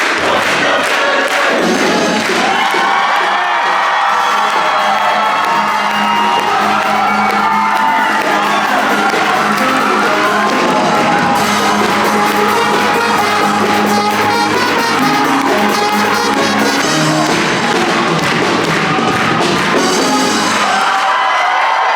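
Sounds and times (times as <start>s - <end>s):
band music with brass: 1.3s - 21.3s.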